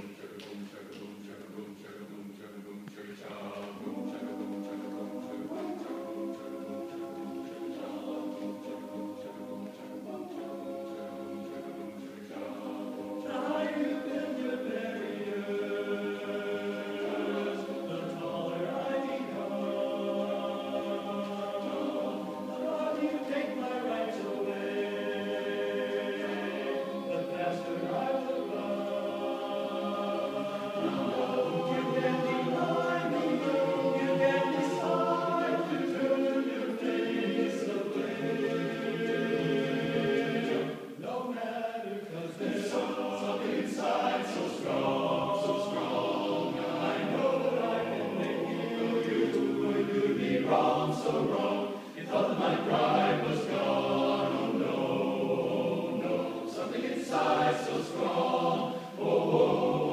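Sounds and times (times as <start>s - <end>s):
men's chorus singing in harmony: 0.0s - 59.9s.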